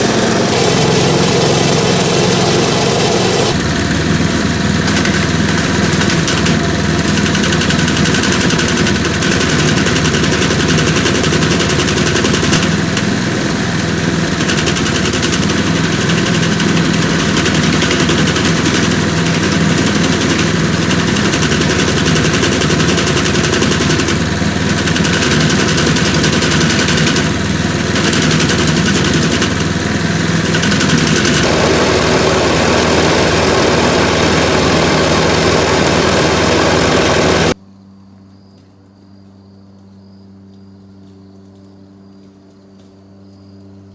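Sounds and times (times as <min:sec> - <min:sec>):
wood chipper engine running: 0:00.0 - 0:37.6.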